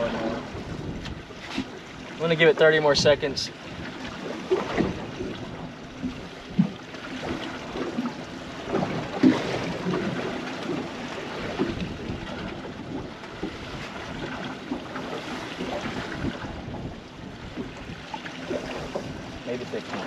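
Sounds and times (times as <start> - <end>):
wind on microphone: 0.0 - 2.0, 2.8 - 8.1, 8.7 - 20.0
small waves slapping hull: 0.0 - 20.0.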